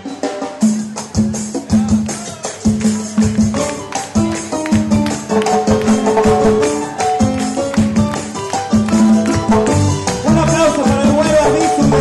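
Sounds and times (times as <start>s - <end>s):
latin dance band playing: 0.0s - 12.0s.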